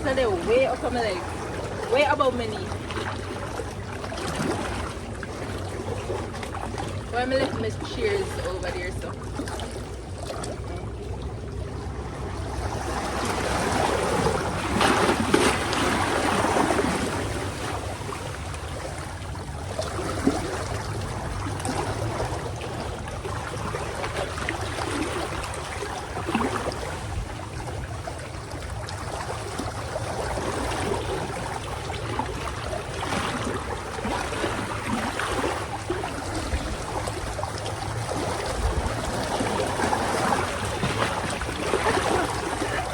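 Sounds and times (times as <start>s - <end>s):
steady low rumble: 0.0s - 42.9s
water splashing and lapping: 0.0s - 42.9s.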